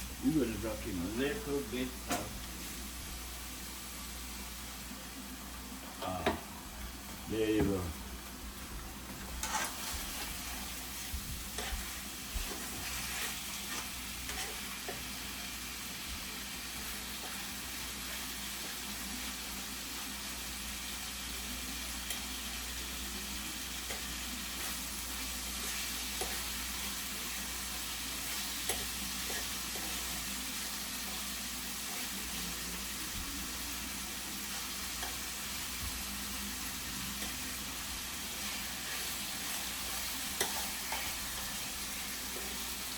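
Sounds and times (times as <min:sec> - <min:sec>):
chicken sizzling in a pan: 0:00.0 - 0:42.9.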